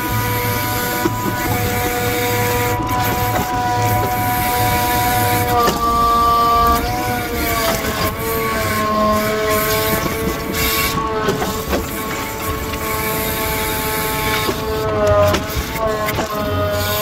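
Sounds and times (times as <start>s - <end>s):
hydraulic crane whine: 0.0s - 17.0s
sharp clicks and knocks: 1.0s - 17.0s.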